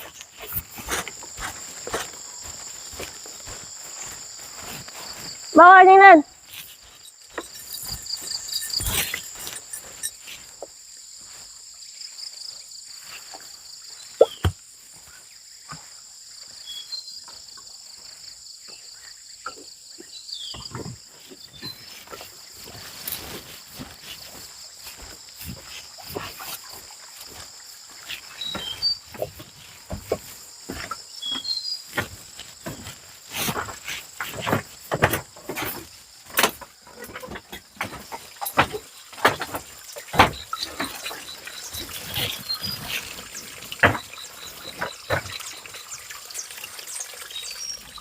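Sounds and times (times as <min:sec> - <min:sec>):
footsteps through undergrowth: 0:00.0 - 0:16.0, 0:20.6 - 0:45.4
insects chirring: 0:00.0 - 0:48.0.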